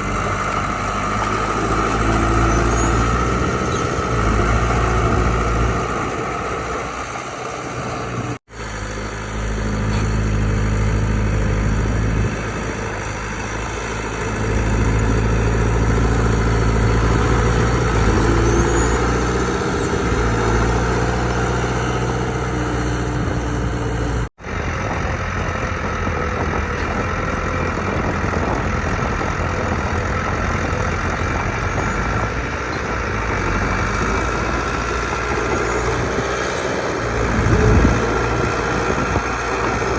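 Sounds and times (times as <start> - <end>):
heavy diesel machinery engines: 0.0 - 39.9.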